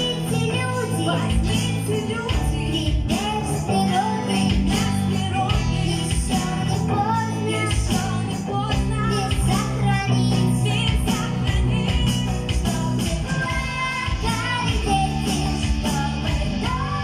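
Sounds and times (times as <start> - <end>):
bass line: 0.0 - 17.0
drums: 0.0 - 17.0
guitar: 0.0 - 17.0
person singing: 0.0 - 17.0.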